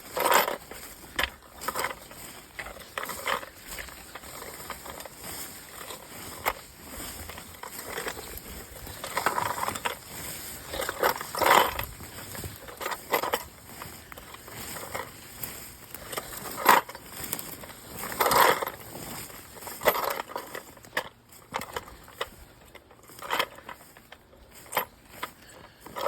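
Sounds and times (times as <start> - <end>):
footsteps crunching through undergrowth: 0.0 - 26.0.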